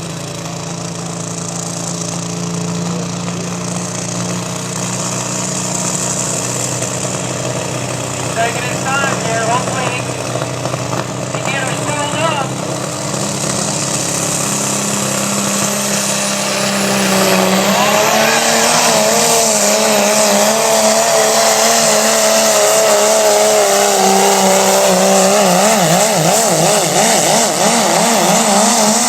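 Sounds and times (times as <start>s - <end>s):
diesel truck engine full throttle: 0.0s - 29.0s.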